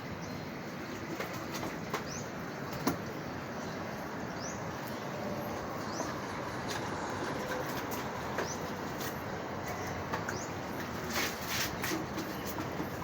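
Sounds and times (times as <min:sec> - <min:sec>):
steady rumbling background noise: 0:00.0 - 0:13.0.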